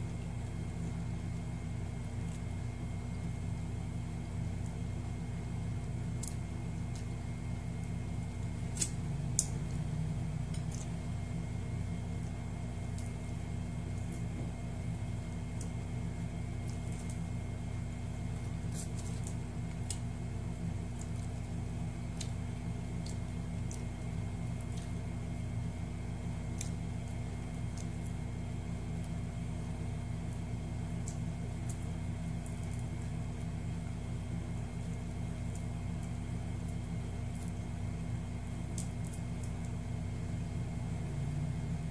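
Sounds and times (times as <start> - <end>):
low room hum: 0.0 - 41.9.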